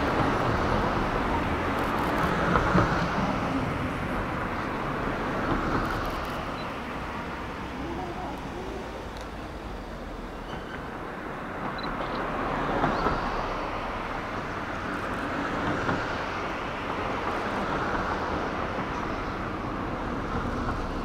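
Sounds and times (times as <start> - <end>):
train approaching on track: 0.0 - 21.0.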